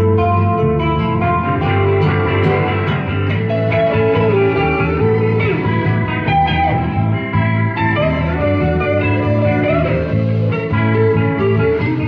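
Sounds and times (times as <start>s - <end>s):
acoustic and electric guitars: 0.0s - 12.0s
low bass line: 0.0s - 12.0s.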